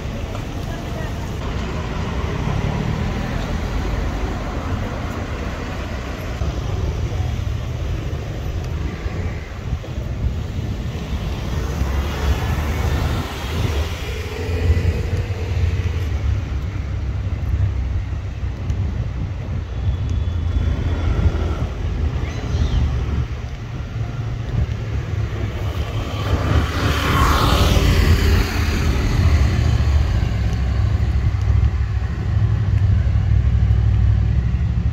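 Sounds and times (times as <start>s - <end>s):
road traffic rumble: 0.0s - 34.9s.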